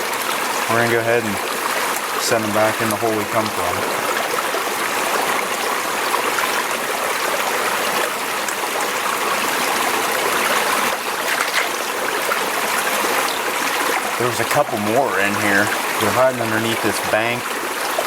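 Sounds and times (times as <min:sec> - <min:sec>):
stream running: 0:00.0 - 0:18.0.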